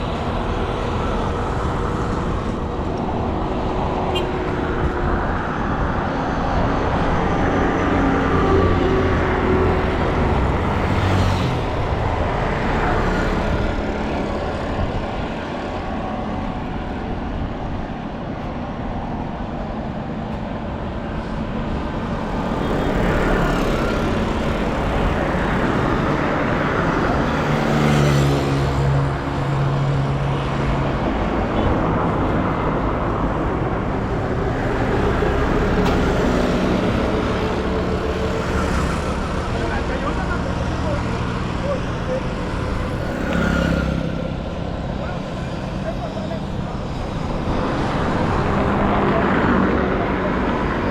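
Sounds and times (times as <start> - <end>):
street traffic passing: 0.0 - 50.9.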